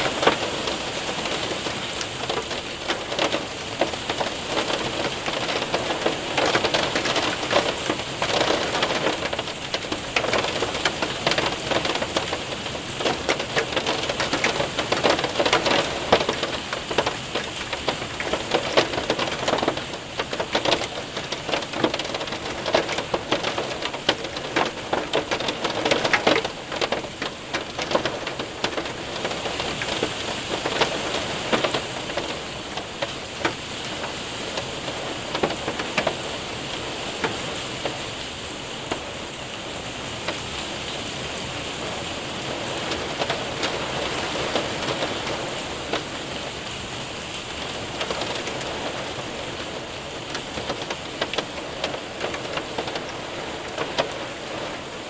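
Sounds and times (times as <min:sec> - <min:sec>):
hailstones ticking: 0:00.0 - 0:55.0
rain pattering on window: 0:00.0 - 0:55.0.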